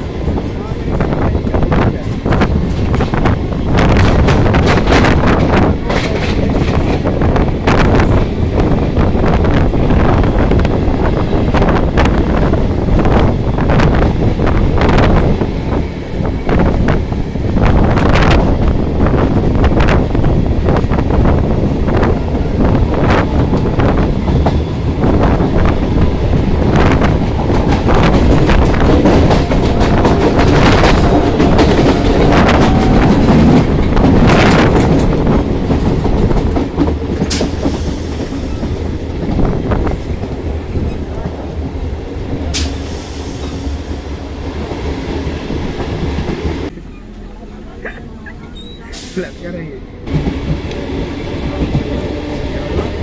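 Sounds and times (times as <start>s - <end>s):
train wheels clattering on rails: 0.0s - 47.2s, 50.0s - 53.0s.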